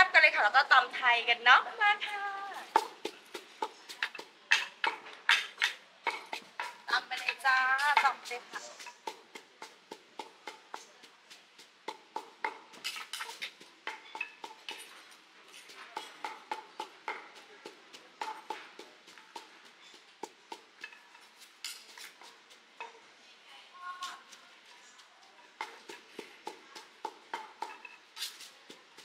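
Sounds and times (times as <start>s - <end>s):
pestle pounding in a mortar: 2.6s - 23.0s, 25.5s - 29.0s.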